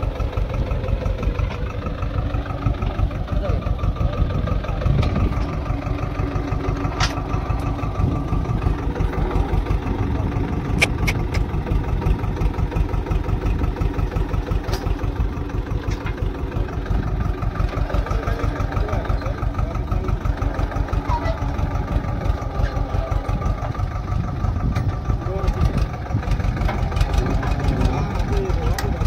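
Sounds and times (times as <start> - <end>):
tractor diesel engine chugging: 0.0 - 29.0.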